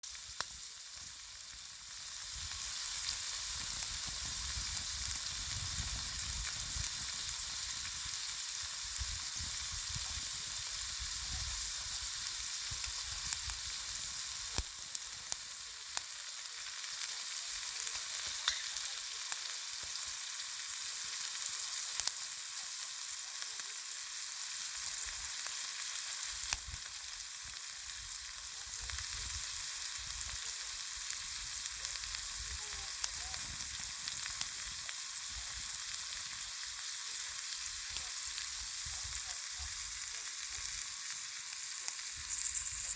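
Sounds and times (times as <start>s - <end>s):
shrimp sizzling in oil: 0.0s - 42.9s.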